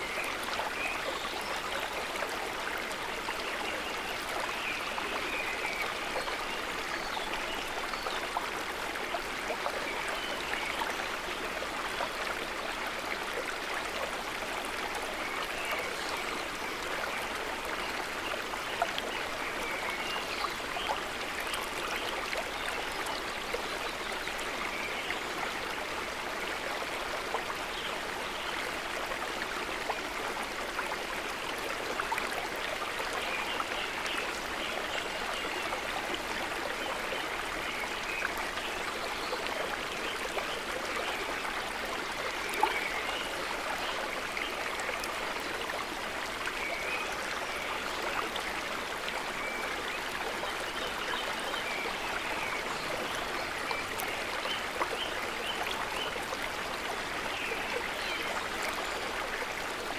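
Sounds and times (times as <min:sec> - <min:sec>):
river water gurgling: 0:00.0 - 0:59.9.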